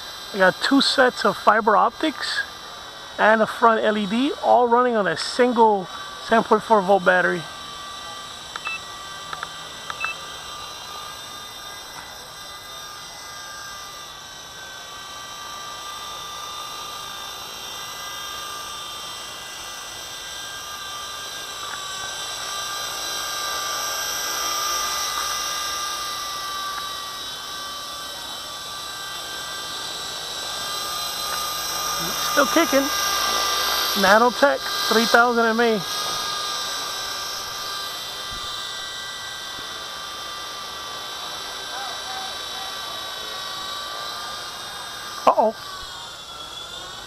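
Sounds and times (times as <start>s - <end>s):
rc helicopter rotor whine: 0.0s - 47.0s.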